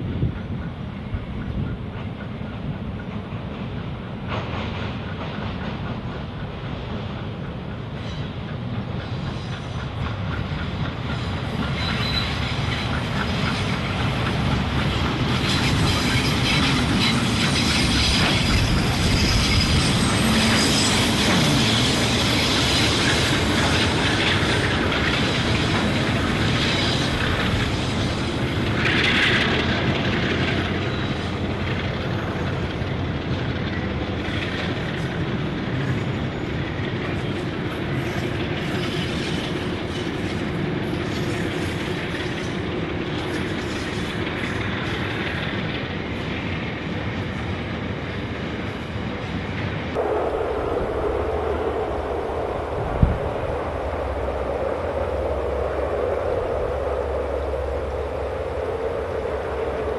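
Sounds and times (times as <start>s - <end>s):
train wheels clattering on rails: 0.0s - 50.0s
train wheels squealing: 0.4s - 49.9s.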